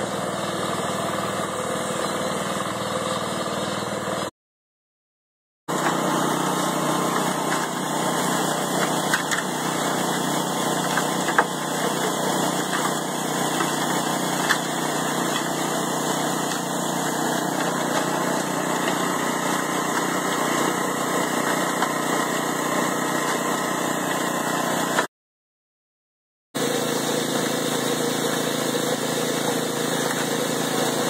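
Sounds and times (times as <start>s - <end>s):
cement mixer engine running: 0.0s - 4.3s, 5.7s - 25.1s, 26.6s - 31.0s.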